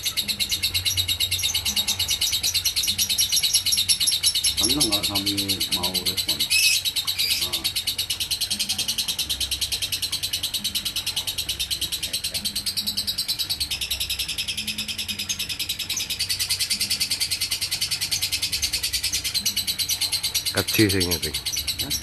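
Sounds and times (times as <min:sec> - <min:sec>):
lovebird chattering trill: 0:00.0 - 0:22.0.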